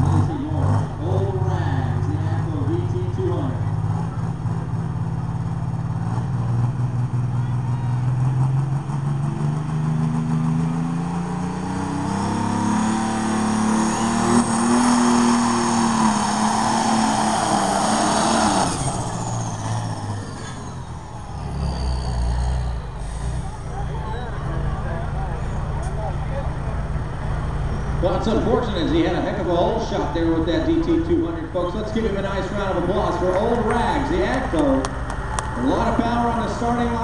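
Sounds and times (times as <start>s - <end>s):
tractor diesel engine revving: 0.0s - 37.0s.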